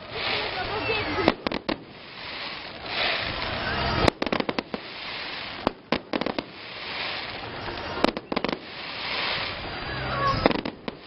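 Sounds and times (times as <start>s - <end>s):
fireworks cracking: 0.0s - 11.0s
steady hiss: 0.0s - 11.0s.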